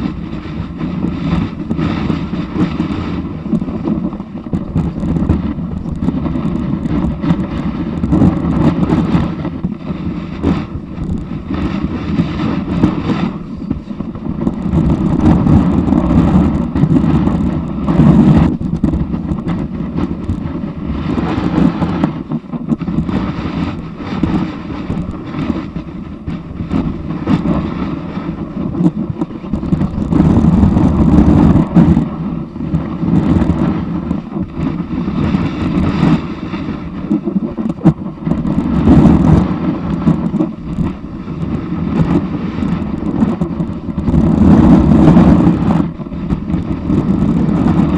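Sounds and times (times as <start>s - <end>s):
snowboard scraping over snow: 0.0s - 47.9s
wind on microphone: 0.0s - 47.9s.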